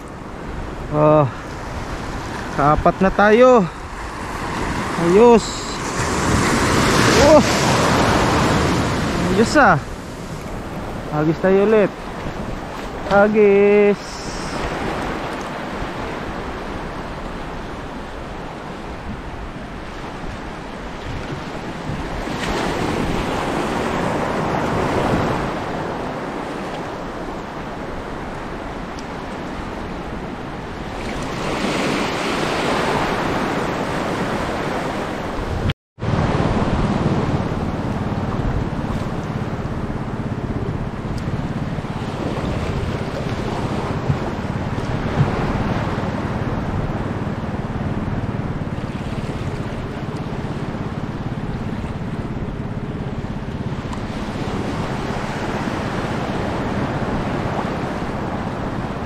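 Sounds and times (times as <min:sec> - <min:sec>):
sea waves washing in: 0:00.0 - 0:59.0
wind buffeting microphone: 0:00.0 - 0:59.0.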